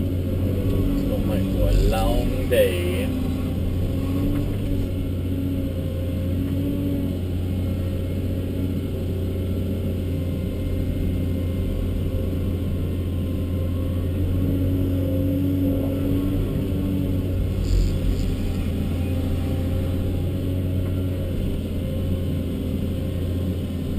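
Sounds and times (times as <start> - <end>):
diesel engine hum: 0.0 - 23.9
hydraulic whine: 0.0 - 23.9.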